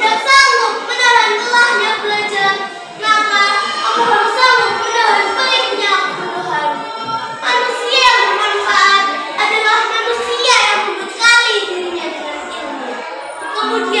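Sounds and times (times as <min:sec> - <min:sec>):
girl chanting a speech: 0:00.0 - 0:14.0.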